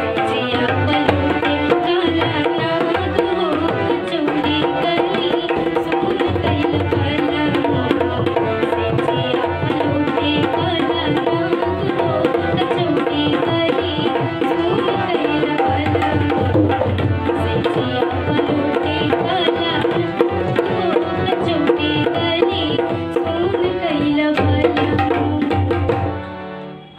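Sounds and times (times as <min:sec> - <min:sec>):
girl singing folk song: 0:00.0 - 0:26.1.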